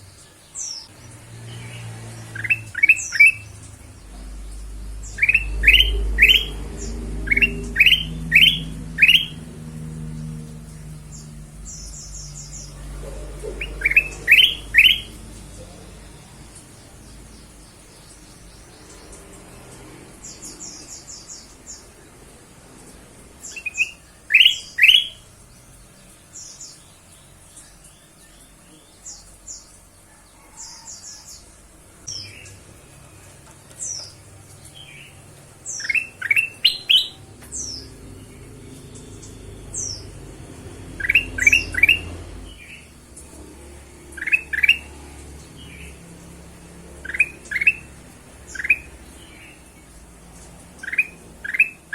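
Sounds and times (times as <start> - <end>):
bird chirping calls: 0.0 - 21.9, 23.4 - 51.9.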